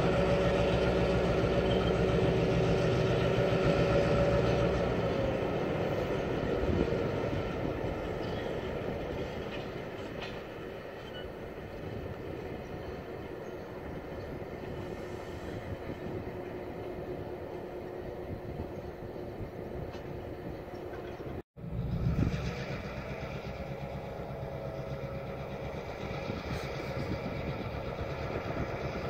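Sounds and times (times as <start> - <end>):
diesel locomotive engines: 0.0 - 29.0
rolling train cars: 0.0 - 29.0.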